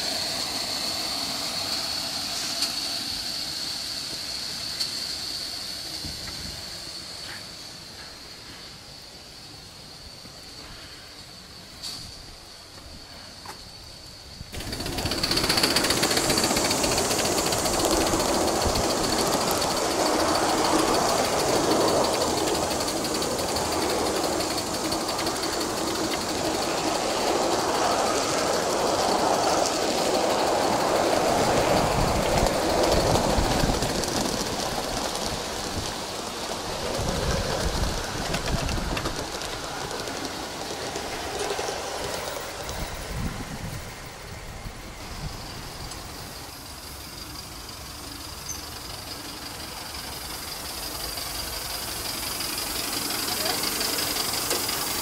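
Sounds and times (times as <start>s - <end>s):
model train wheels clattering on track: 0.0s - 8.8s, 10.3s - 55.0s.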